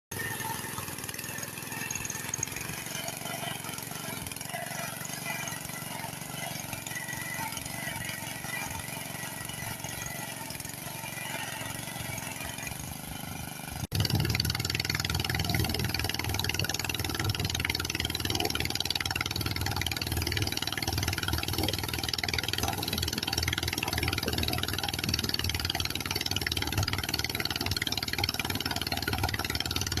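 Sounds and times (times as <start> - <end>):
harvesting machine engine: 0.1 - 30.0.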